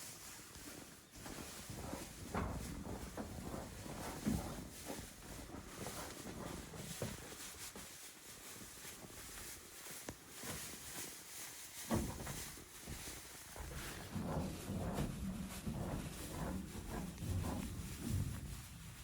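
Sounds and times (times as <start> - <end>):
goats knocking and rustling: 0.2 - 19.0.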